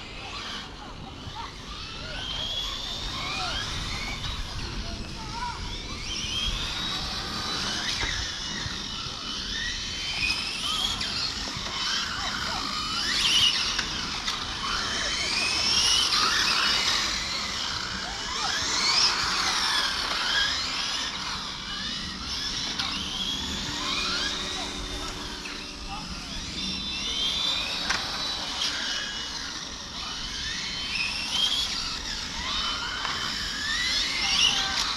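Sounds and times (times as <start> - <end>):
electric motors whining: 0.0 - 34.9.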